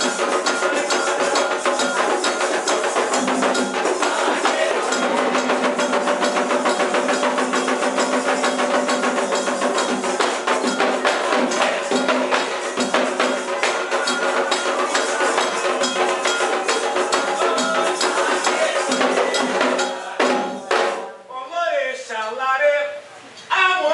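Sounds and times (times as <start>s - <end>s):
shakers: 0.0s - 21.0s
clacking beat: 0.0s - 21.1s
fast hand percussion: 0.0s - 21.2s.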